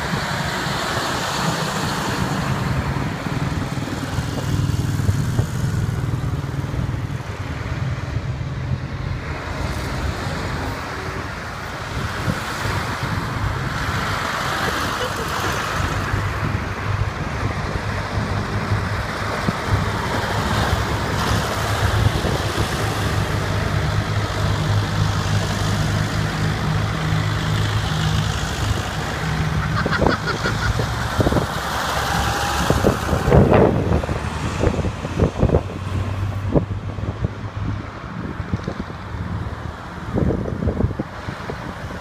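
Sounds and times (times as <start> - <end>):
tractor engines humming: 0.0 - 42.0.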